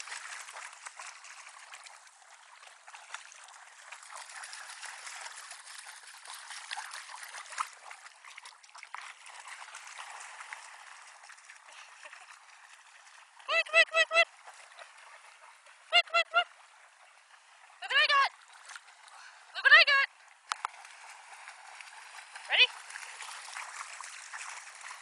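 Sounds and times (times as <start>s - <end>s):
dog splashing through water: 0.0s - 19.4s, 20.5s - 25.0s.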